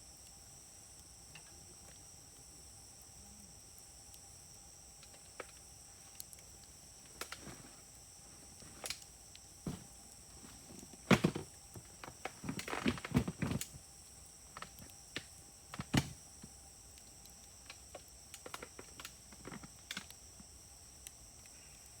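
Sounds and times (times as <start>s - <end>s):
wood fire crackling and popping: 0.1s - 22.0s.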